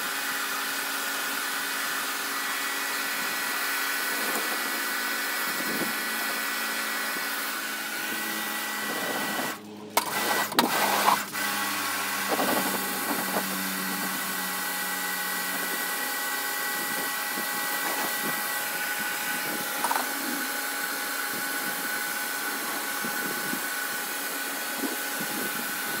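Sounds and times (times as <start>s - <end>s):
pressure washer motor humming: 0.0s - 26.0s
water jet hissing on paving: 0.5s - 26.0s.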